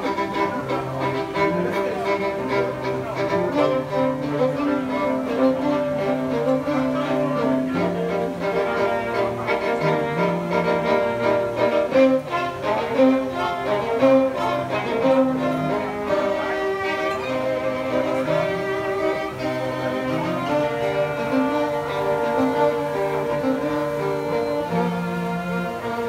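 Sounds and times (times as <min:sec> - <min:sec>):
cello notes: 0:00.0 - 0:26.0
violins playing melody: 0:00.0 - 0:26.0.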